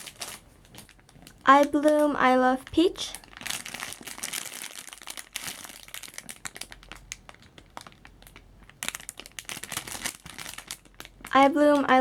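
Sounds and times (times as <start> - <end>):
toy crinkling and rustling: 0.0 - 12.0.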